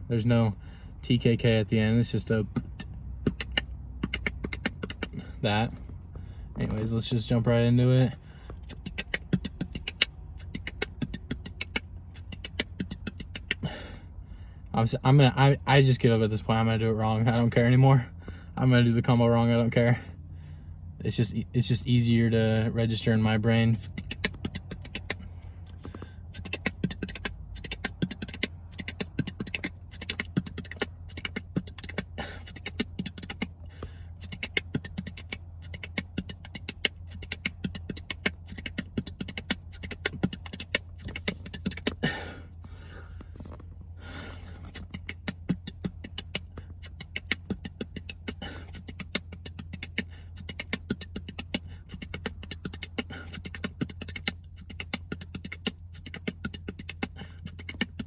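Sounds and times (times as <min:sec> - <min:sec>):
man beatboxing: 0:00.0 - 0:06.0, 0:06.6 - 0:14.0, 0:14.7 - 0:20.1, 0:21.0 - 0:42.4, 0:43.2 - 0:58.0
steady low hum: 0:00.0 - 0:58.0.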